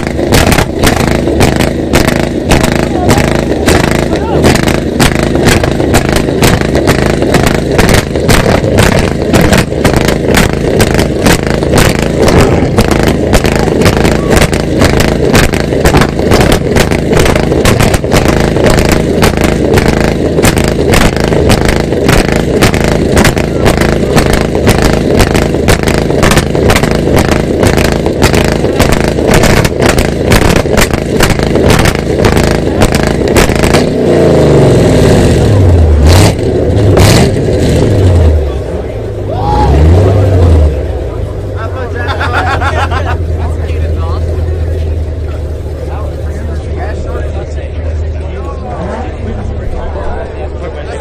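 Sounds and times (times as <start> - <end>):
car engines revving hard: 0.0 - 51.0
exhaust crackle: 0.0 - 51.0.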